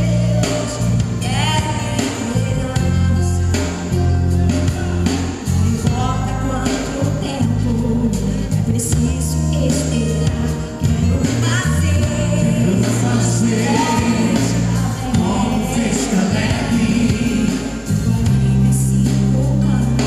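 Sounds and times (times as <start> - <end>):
bass and drums: 0.0 - 20.0
gospel band with singing: 0.0 - 20.0.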